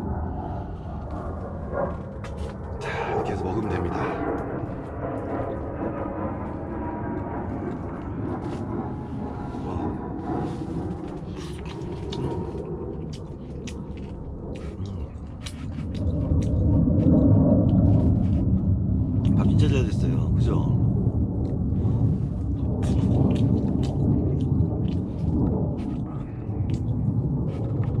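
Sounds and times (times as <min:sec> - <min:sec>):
low rumbling noise: 0:00.0 - 0:28.0.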